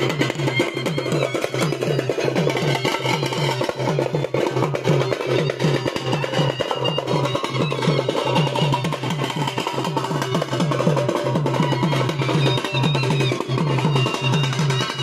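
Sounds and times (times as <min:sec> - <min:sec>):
drums beating fast: 0:00.0 - 0:15.0.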